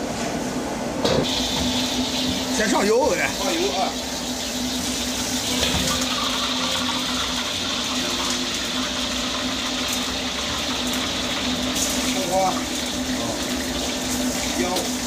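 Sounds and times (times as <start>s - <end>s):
gas burner rushing: 1.0s - 15.0s.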